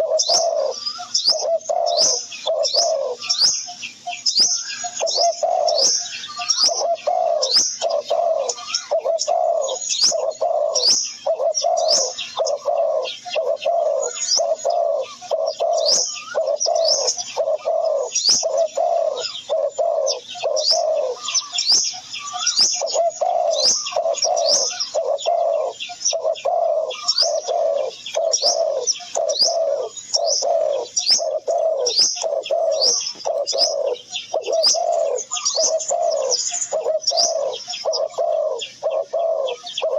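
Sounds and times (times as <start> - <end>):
low bird call: 0.0 - 39.9.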